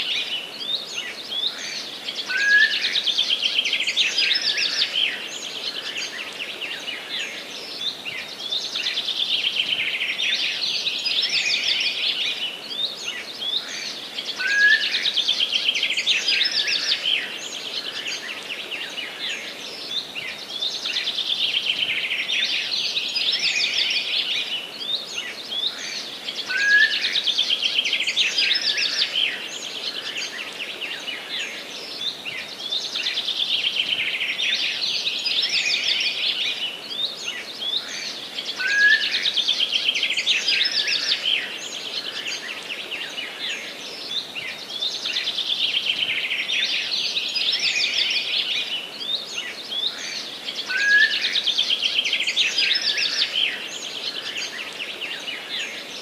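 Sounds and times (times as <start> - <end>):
faint background hiss: 0.0 - 56.0
songbirds singing trilled song: 0.0 - 56.0.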